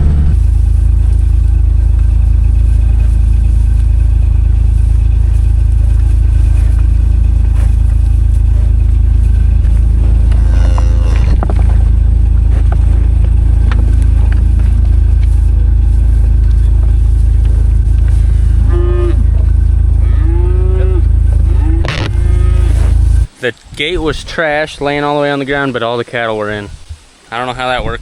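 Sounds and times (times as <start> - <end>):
vehicle interior rumble: 0.0 - 24.8.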